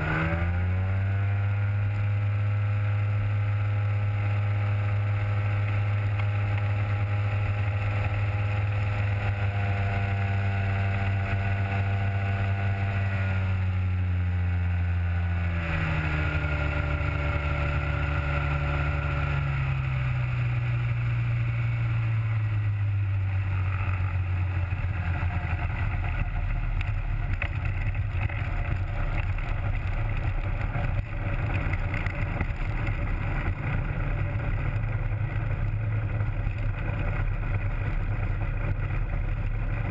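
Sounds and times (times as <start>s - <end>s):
two-stroke propeller engine running: 0.0s - 39.9s.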